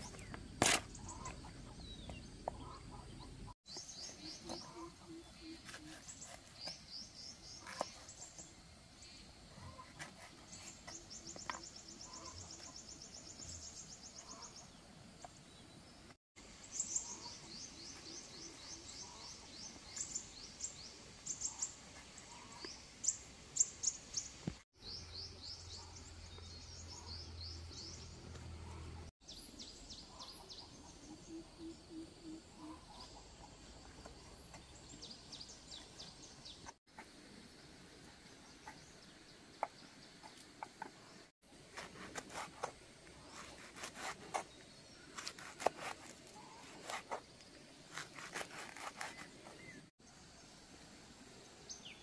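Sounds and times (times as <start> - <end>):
small birds trilling and chirping: 0.0 - 50.6
low rural background: 0.0 - 52.0.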